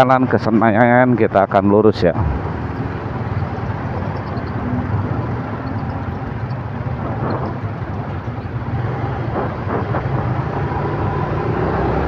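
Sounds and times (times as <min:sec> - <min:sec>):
road and traffic noise: 0:00.0 - 0:12.0
motorcycle engine hum: 0:02.0 - 0:12.0.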